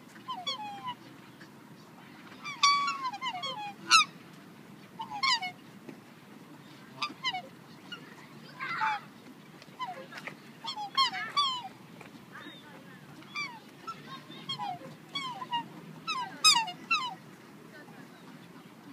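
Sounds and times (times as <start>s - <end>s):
swans calling: 0.0s - 5.8s, 6.6s - 17.4s.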